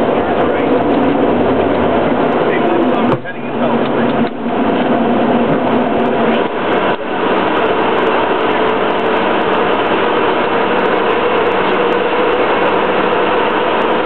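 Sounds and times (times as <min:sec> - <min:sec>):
jet engine and airflow rush: 0:00.0 - 0:14.0.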